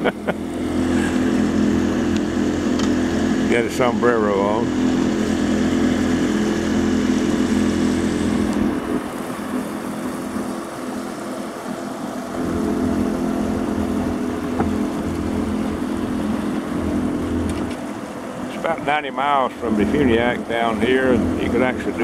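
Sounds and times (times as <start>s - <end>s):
outboard motor running: 0.0s - 22.0s
water rushing past hull: 0.0s - 22.0s.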